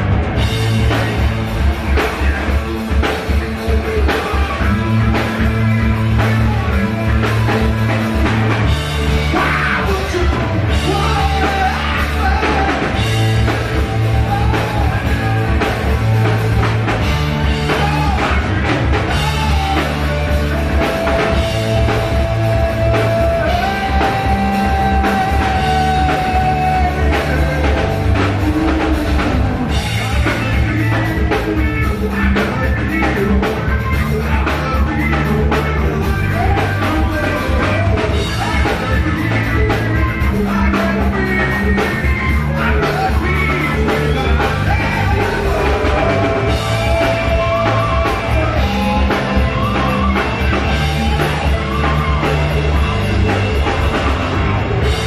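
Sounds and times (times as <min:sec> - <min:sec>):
bass guitar: 0:00.0 - 0:55.0
drum kit: 0:00.0 - 0:55.0
electric guitars: 0:00.0 - 0:55.0
person singing: 0:00.8 - 0:55.0.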